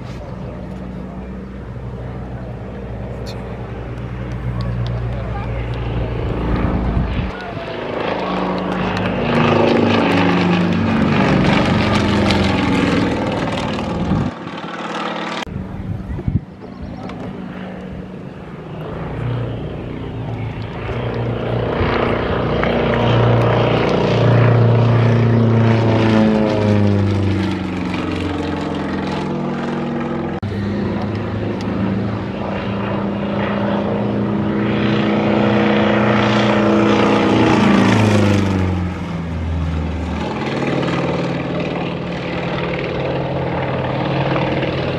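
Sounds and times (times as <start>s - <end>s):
propeller plane engine: 0.0s - 44.9s.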